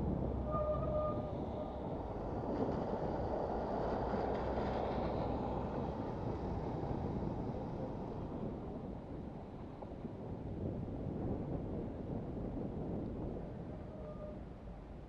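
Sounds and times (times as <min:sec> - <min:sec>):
bicycle tyres rolling on wet paving: 0:00.0 - 0:15.0
wind noise: 0:00.0 - 0:15.0.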